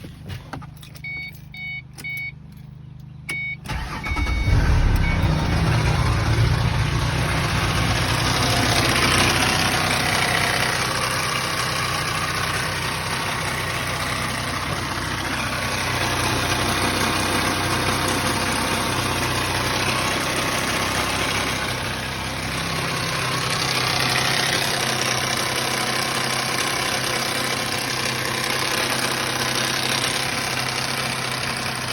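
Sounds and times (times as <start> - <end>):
car engine cranking and starting: 0.0 - 31.9
engine rattling: 0.0 - 31.9.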